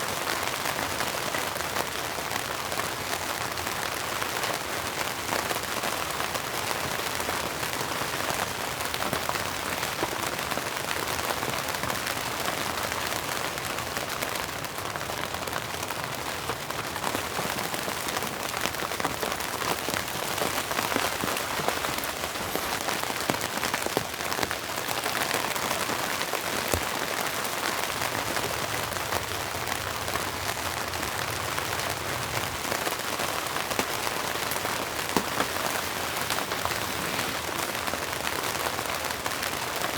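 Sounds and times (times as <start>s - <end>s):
raindrops ticking close by: 0.0s - 39.9s
steady rain: 0.0s - 39.9s.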